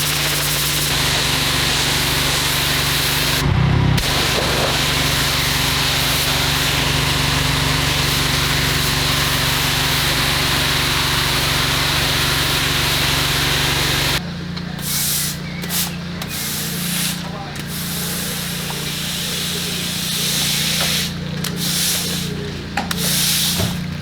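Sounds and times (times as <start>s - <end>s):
pressure washer water spray: 0.0s - 14.2s, 14.8s - 24.0s
pump motor hum: 0.0s - 24.0s.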